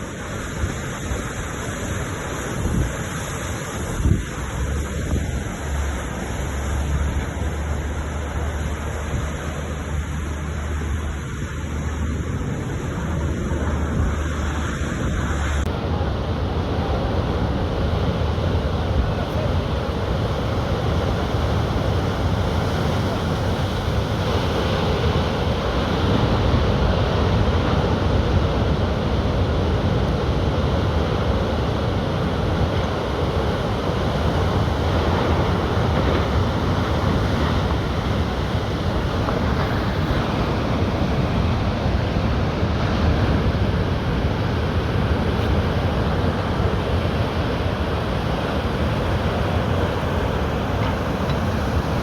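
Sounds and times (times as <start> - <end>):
sea surf breaking: 0.0 - 52.0
wind rumbling on microphone: 0.0 - 52.0.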